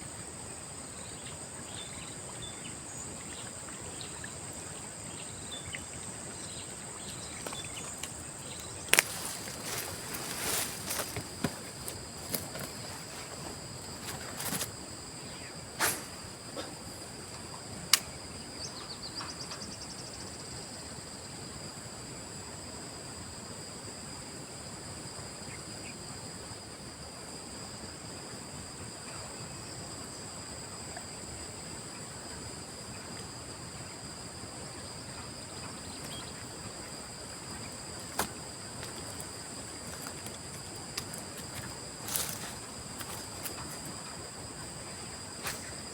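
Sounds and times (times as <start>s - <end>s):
insects chorus: 0.0s - 45.9s
soft outdoor hiss: 0.0s - 45.9s.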